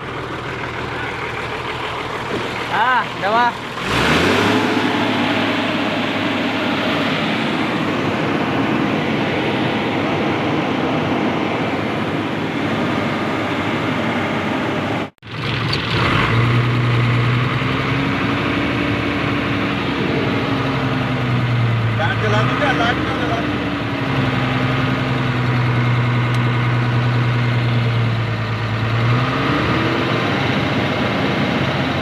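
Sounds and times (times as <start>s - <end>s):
truck diesel engine idling: 0.0s - 29.2s, 29.8s - 32.0s.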